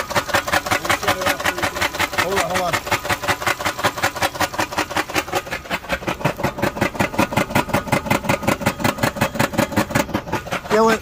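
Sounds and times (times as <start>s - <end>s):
engine idling with fast knock: 0.0s - 11.0s.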